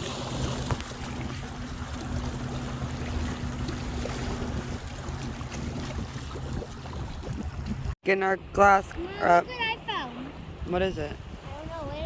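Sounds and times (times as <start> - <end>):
lapping shallow water: 0.0 - 12.0
low motor hum: 0.0 - 12.0
wind on microphone: 0.0 - 12.0.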